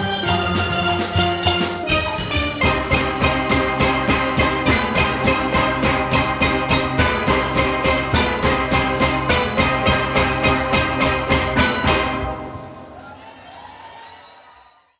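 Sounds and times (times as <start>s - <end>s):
steelpan band with drums: 0.0s - 13.4s.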